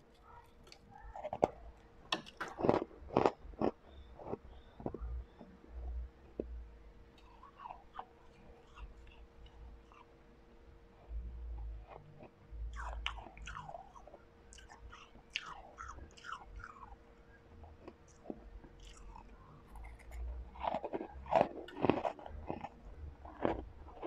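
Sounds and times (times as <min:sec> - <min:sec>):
crunching and chewing ice: 0:00.0 - 0:06.6, 0:07.2 - 0:10.1, 0:11.6 - 0:24.0.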